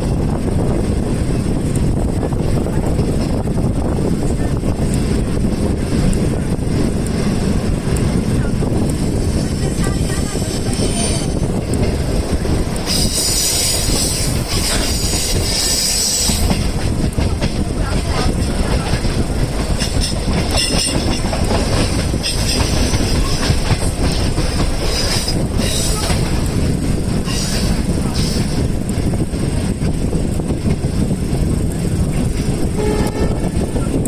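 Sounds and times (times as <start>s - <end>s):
train rumble and wheel clatter: 0.0s - 34.0s.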